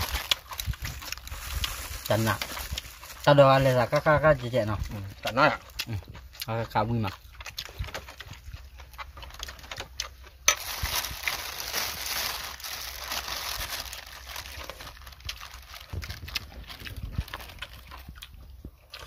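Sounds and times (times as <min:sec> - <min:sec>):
plastic bag crinkling: 0:00.0 - 0:05.2, 0:07.3 - 0:18.2.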